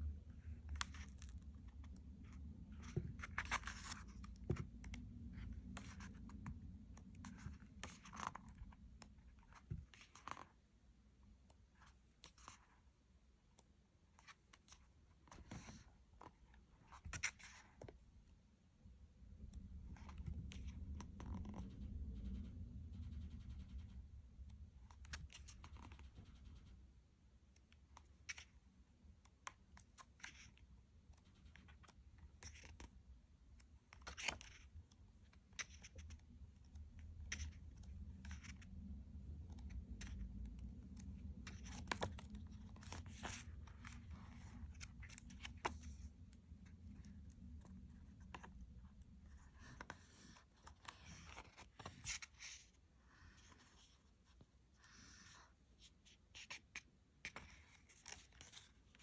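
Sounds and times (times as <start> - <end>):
book pages turning: 0.3 - 10.6, 11.8 - 12.8, 14.1 - 18.0, 19.4 - 21.6, 24.8 - 26.5, 27.5 - 28.6, 29.2 - 32.9, 33.6 - 59.0.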